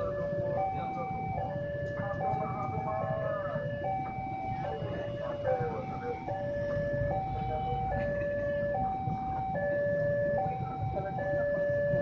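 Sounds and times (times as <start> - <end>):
level crossing two-tone alarm: 0.0 - 12.0.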